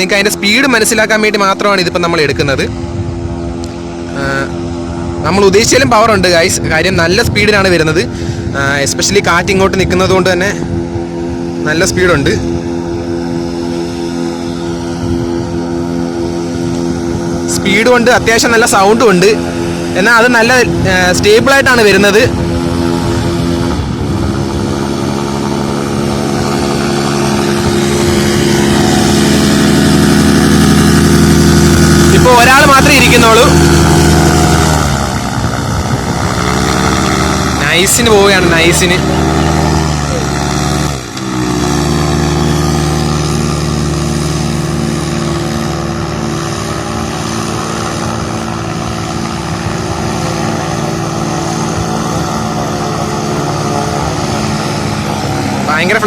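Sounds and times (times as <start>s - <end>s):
motorcycle engine driving propeller: 0.0s - 56.0s.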